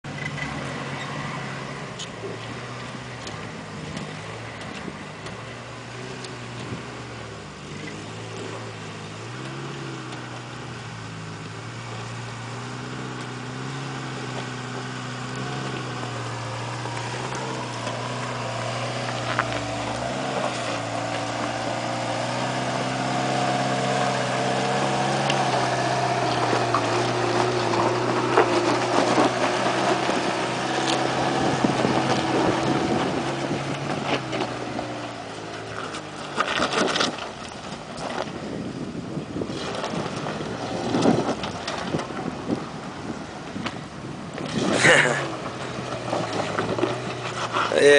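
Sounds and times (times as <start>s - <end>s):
car engine crawling uphill: 0.0s - 47.9s.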